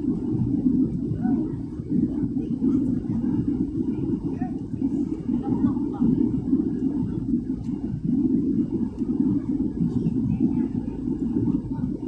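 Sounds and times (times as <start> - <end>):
jet cabin engine noise: 0.0 - 12.0.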